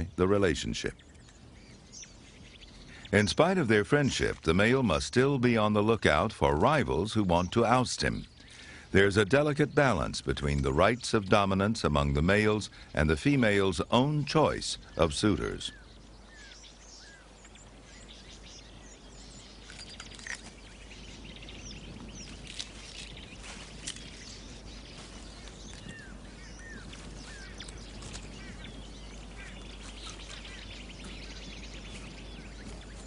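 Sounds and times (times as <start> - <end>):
background hiss: 0.0 - 33.0
small birds chirping: 0.0 - 33.0.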